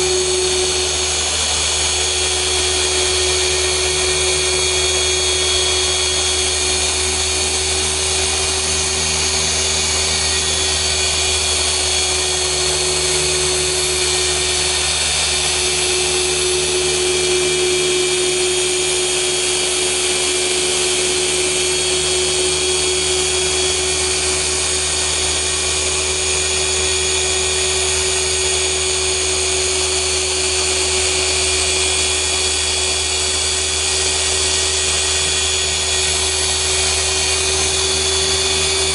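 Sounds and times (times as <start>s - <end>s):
polisher motor whine: 0.0s - 38.9s.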